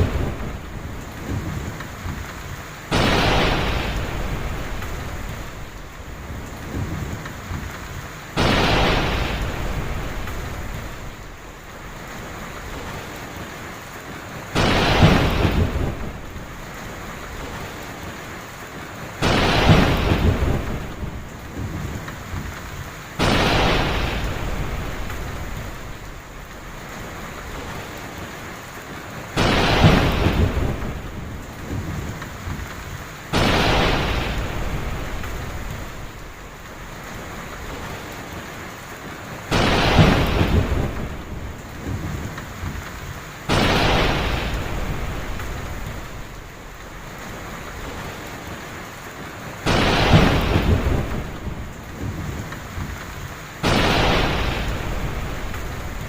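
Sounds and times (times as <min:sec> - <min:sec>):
heavy rain falling: 0:00.0 - 0:56.0
thunderclaps rumbling: 0:00.0 - 0:56.0.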